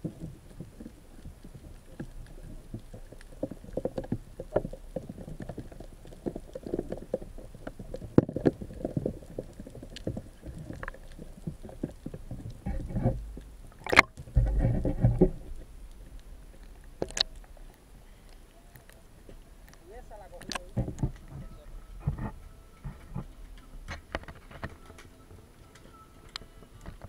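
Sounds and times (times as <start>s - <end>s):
muffled underwater knocks and clicks: 0.0s - 17.7s, 18.7s - 25.2s
rumble of moving water: 0.0s - 27.0s.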